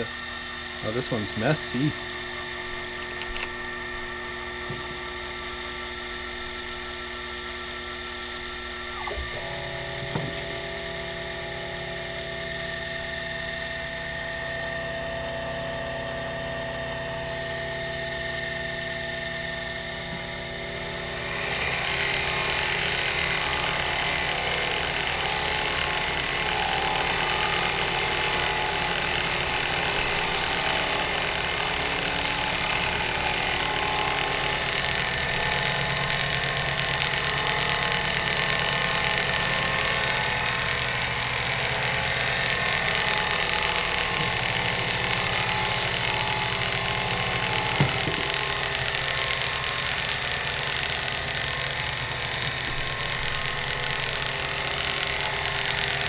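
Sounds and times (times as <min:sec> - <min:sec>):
milling cutter cutting metal: 0:00.0 - 0:12.6, 0:21.0 - 0:56.0
motors humming: 0:00.0 - 0:13.2, 0:20.1 - 0:56.0.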